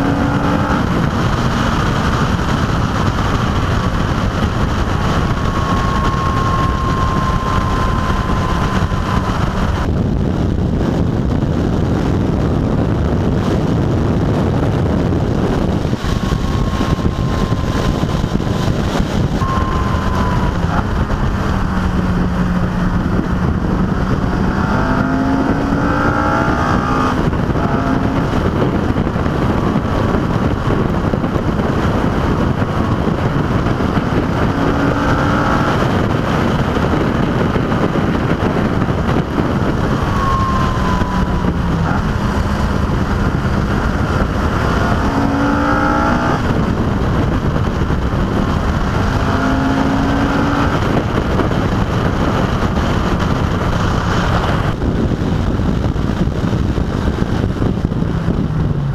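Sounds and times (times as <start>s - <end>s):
car engine accelerating: 0.0s - 58.9s
wind and road noise: 0.0s - 58.9s.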